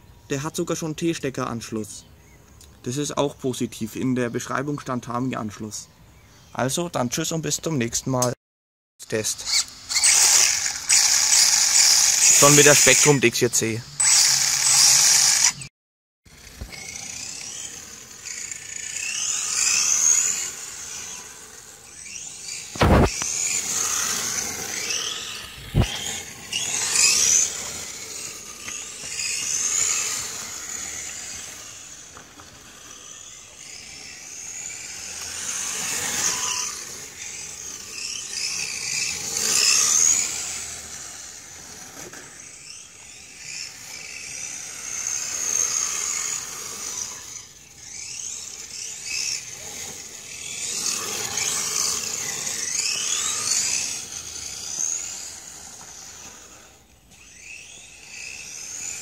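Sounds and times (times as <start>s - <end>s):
toy car electric motor whining: 9.0s - 15.7s, 16.3s - 59.0s.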